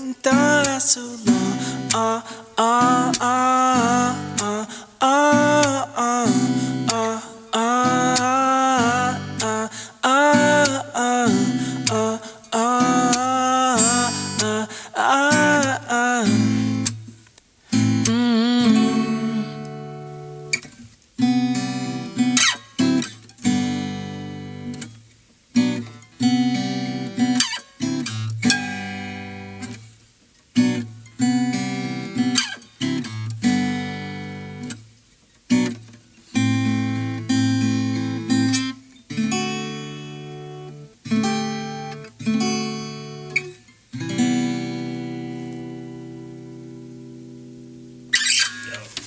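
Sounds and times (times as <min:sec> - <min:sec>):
acoustic guitar strumming chords: 0:00.0 - 0:25.0, 0:25.6 - 0:29.8, 0:30.6 - 0:34.8, 0:35.5 - 0:49.0.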